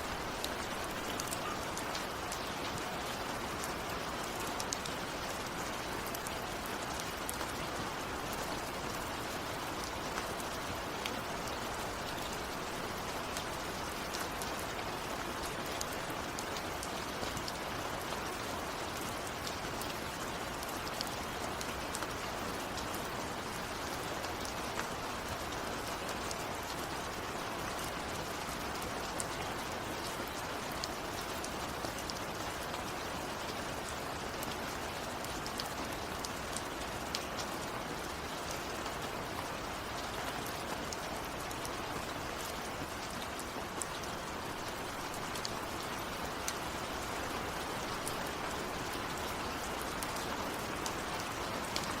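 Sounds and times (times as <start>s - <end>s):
raindrops ticking on surface: 0.0s - 52.0s
rainfall hiss: 0.0s - 52.0s.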